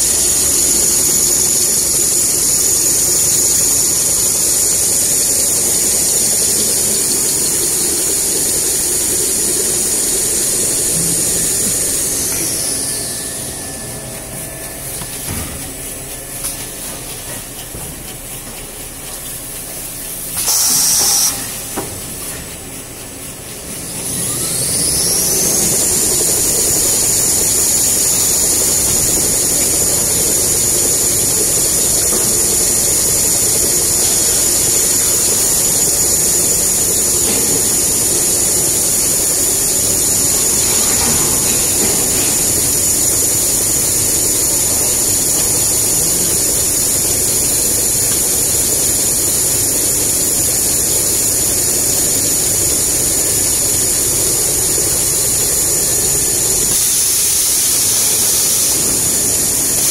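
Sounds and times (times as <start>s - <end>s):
high-pitched machine whine: 0.0s - 17.6s, 18.5s - 22.0s, 22.7s - 59.9s.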